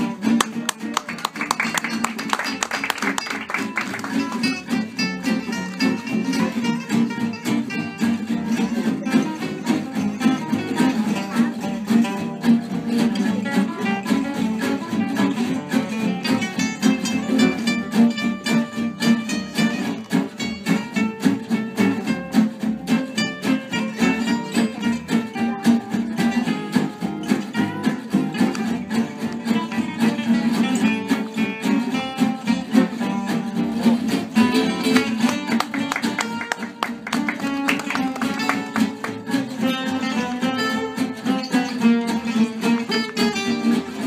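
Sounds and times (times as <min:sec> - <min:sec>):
acoustic guitars strumming and picking: 0:00.0 - 0:44.0
double bass: 0:00.0 - 0:44.0.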